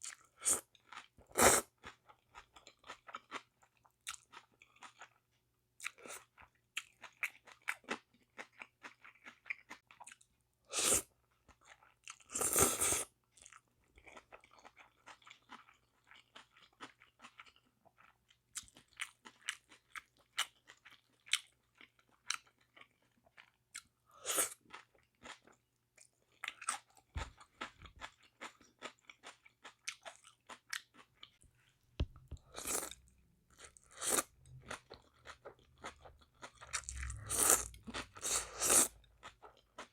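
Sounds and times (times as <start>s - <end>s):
person chewing noodles: 0.0s - 5.2s, 5.8s - 39.9s.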